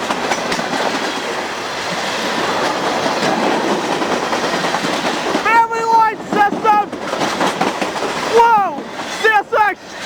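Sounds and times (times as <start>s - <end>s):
steel wheels on rail: 0.0s - 10.0s
wheels clicking over rail joints: 0.0s - 10.0s.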